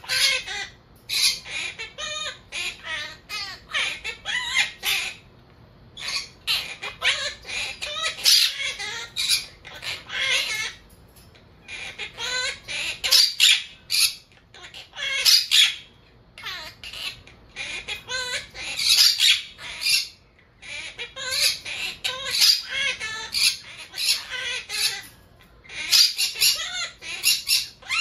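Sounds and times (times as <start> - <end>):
parakeet chattering and squawking: 0.0 - 5.4, 6.0 - 28.0.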